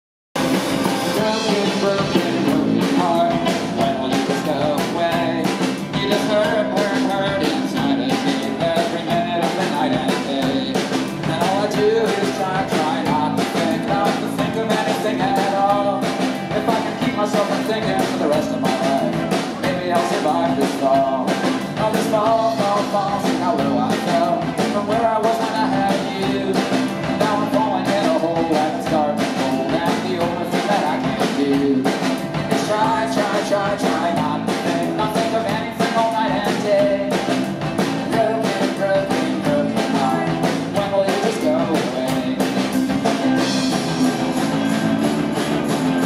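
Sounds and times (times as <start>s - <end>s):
bass guitar: 0.4s - 46.0s
drum kit beat: 0.4s - 46.0s
keyboard: 0.4s - 46.0s
strummed acoustic guitar: 0.4s - 46.0s
person singing: 1.0s - 46.0s.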